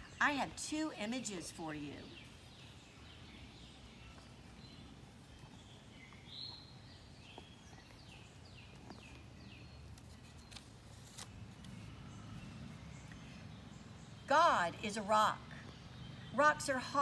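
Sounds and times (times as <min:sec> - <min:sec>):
faint birdsong: 0:00.0 - 0:17.0
low outdoor hum: 0:00.0 - 0:17.0.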